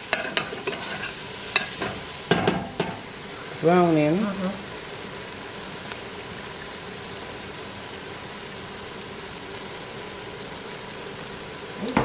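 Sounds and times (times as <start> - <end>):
vegetables frying in a pot: 0.0 - 12.0.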